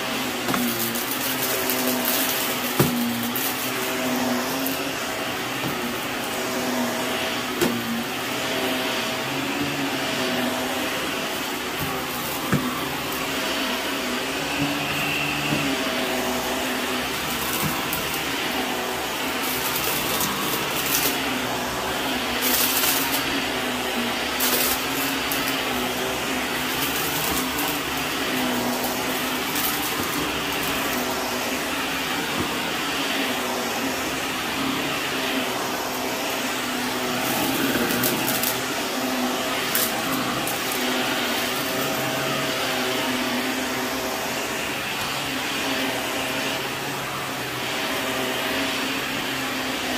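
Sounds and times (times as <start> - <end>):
vacuum cleaner running on carpet: 0.0 - 49.9.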